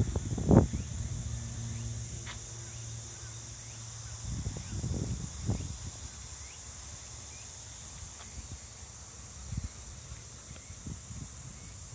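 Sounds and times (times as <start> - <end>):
insect chorus shrilling: 0.0 - 11.9.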